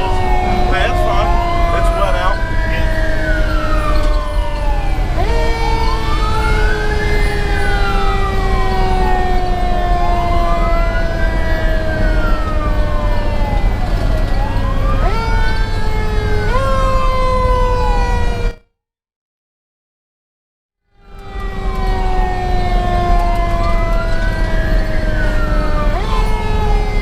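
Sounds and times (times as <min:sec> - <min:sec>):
fire engine rumble: 0:00.0 - 0:18.4, 0:21.1 - 0:27.0
mechanical siren wailing: 0:00.0 - 0:18.7, 0:21.0 - 0:27.0.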